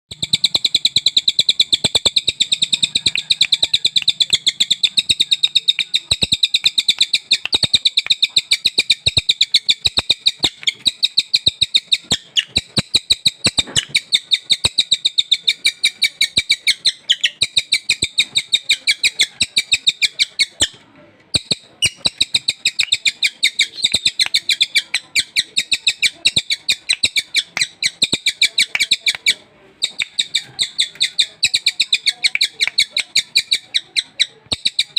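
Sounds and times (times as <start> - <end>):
bird singing high chirps: 0.1 - 34.9.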